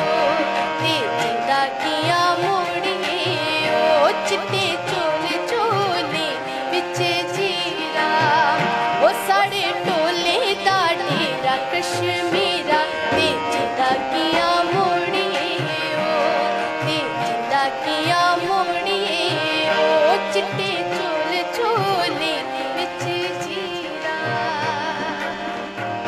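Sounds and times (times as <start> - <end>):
woman singing: 0.0 - 25.7
harmonium held tones: 0.0 - 26.0.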